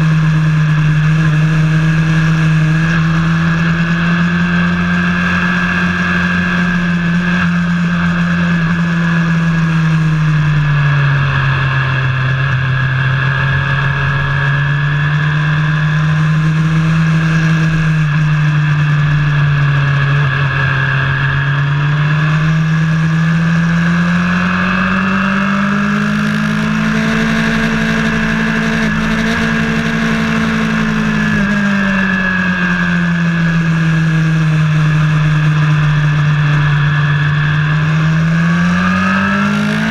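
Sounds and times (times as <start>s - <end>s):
high whine: 0.0s - 39.9s
vehicle engine revving: 0.0s - 39.9s.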